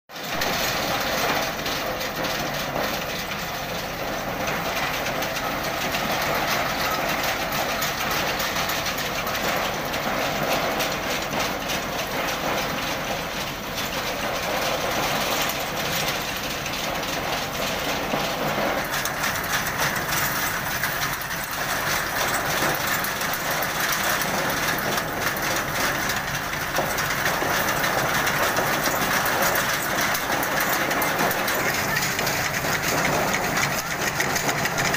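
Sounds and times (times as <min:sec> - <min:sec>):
tractor engine running: 0:00.1 - 0:34.9
harvesting machine clattering: 0:00.2 - 0:34.9.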